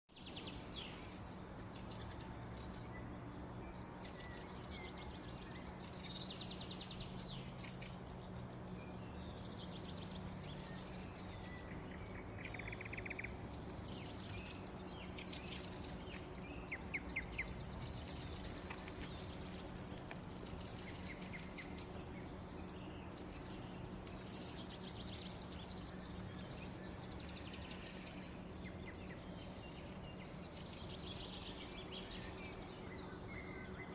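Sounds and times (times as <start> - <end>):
songbirds chirping: 0.1 - 33.9
steady low hum: 0.2 - 33.9.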